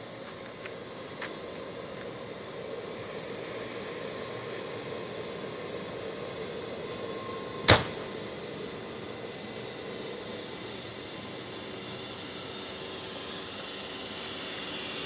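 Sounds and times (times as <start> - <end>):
locomotive humming: 0.0 - 15.0.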